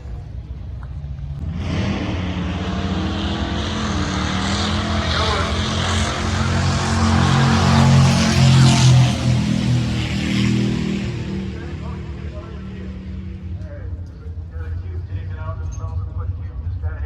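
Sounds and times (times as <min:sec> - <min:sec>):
engine throbbing: 0:00.0 - 0:17.0.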